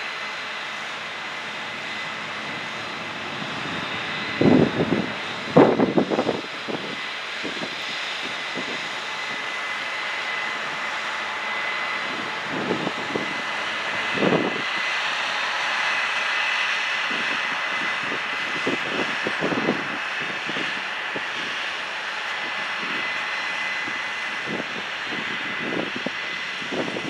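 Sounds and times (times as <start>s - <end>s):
farm machinery running: 0.0s - 27.0s.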